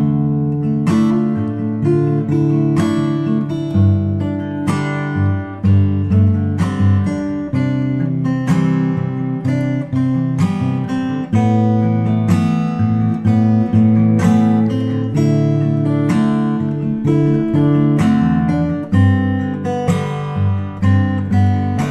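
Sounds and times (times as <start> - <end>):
strummed acoustic guitar chords: 0.0 - 21.9.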